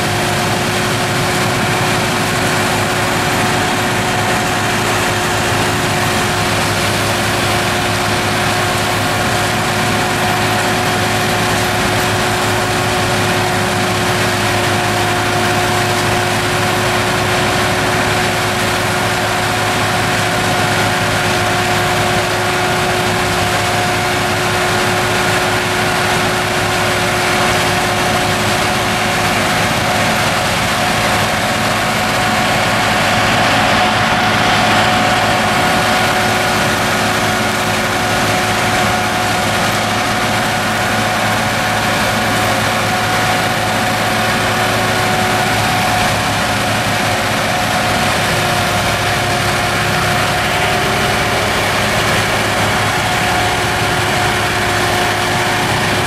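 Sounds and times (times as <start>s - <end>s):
forestry mulcher shredding trees: 0.0s - 56.0s
tractor engine running under load: 0.0s - 56.0s.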